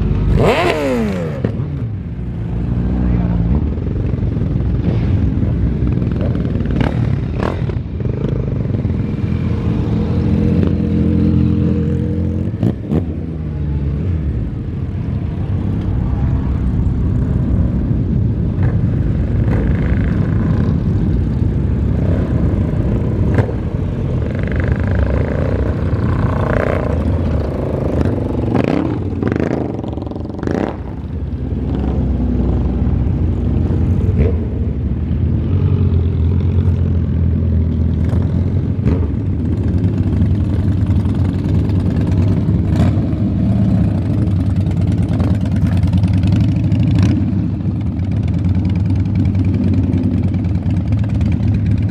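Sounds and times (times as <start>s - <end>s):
motorcycle engine rumbling: 0.0s - 51.9s.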